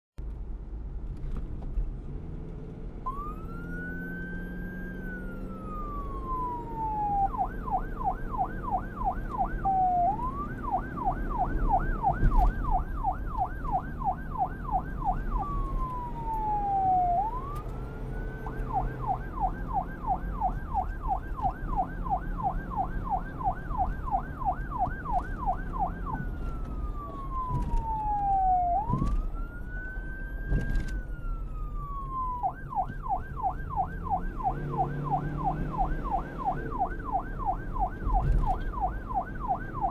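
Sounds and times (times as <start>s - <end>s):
police siren wail and yelp: 3.0s - 39.9s.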